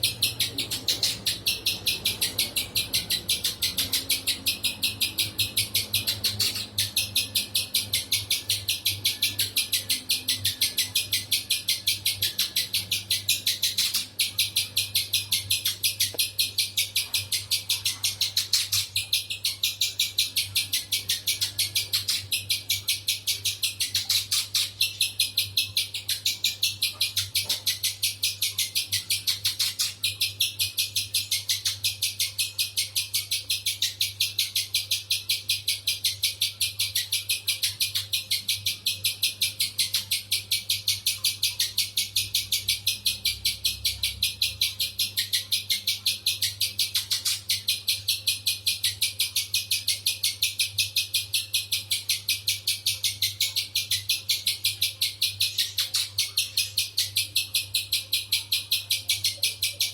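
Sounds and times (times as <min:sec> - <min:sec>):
bird calling with harsh notes: 0:00.0 - 0:59.9
low electrical hum: 0:00.0 - 0:59.9.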